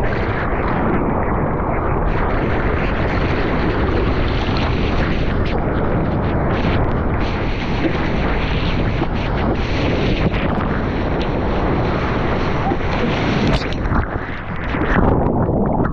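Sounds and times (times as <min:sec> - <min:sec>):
water rushing and spraying: 0:00.0 - 0:15.9
wind on microphone: 0:00.0 - 0:15.9.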